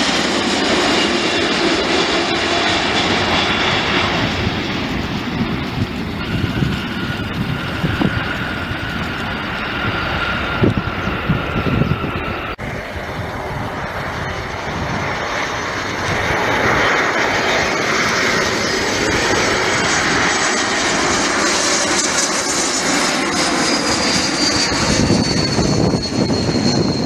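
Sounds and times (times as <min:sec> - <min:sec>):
high jet whine falling in pitch: 0:00.0 - 0:27.0
jet engine rumble: 0:00.0 - 0:27.0.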